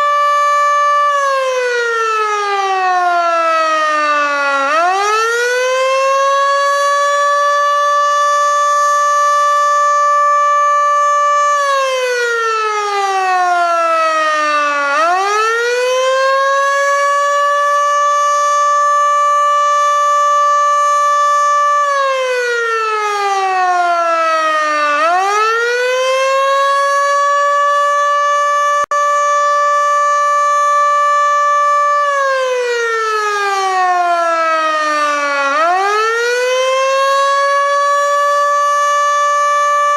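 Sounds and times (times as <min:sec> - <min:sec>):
warning siren winding up and down: 0:00.0 - 0:39.9.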